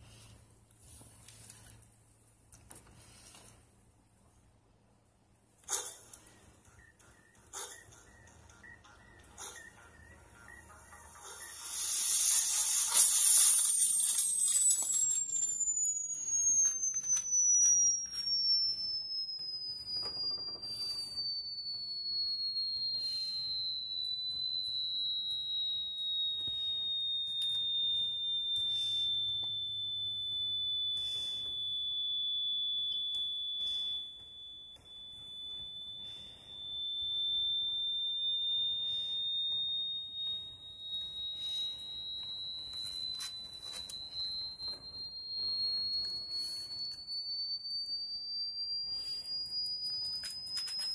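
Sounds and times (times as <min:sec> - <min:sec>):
high-pitched whistling tone: 0:06.6 - 0:50.9.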